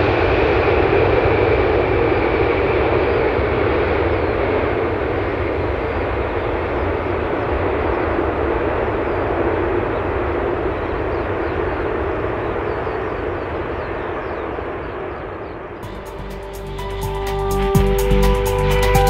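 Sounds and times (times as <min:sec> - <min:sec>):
faint high jet whine: 0:00.0 - 0:19.0
jet engine roar: 0:00.0 - 0:19.0.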